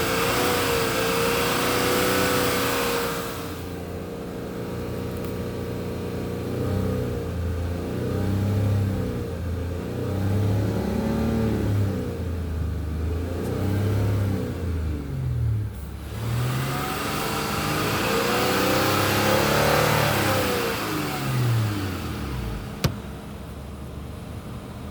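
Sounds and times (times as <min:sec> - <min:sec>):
car engine revving: 0:00.0 - 0:24.9
engine hum: 0:00.0 - 0:24.9.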